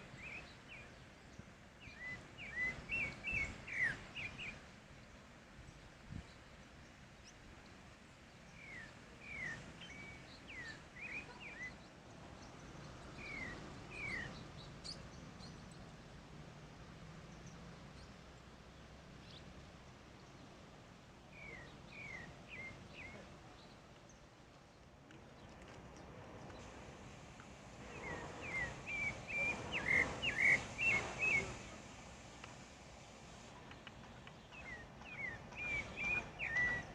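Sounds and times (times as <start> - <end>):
thrush singing faint whistles: 0.0 - 16.4, 21.2 - 24.3, 26.5 - 36.9.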